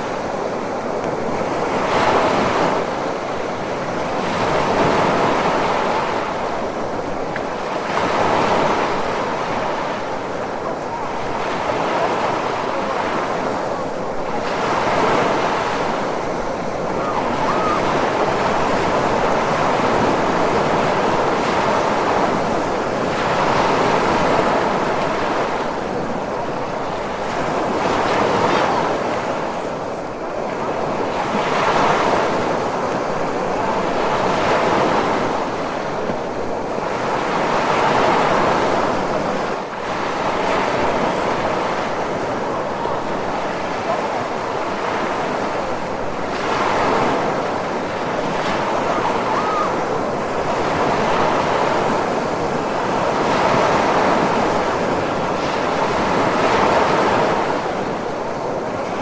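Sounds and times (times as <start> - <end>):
ocean surf waves: 0.0 - 59.0.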